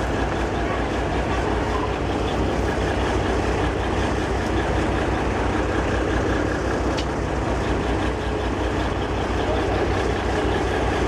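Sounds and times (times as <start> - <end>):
diesel engine pulsing hum: 0.0 - 11.0
train rumble: 0.0 - 11.0.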